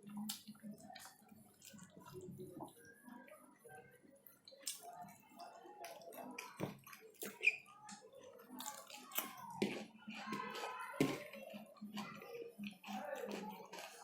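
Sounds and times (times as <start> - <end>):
chewing and wet squishing: 0.0 - 3.4, 4.2 - 14.0.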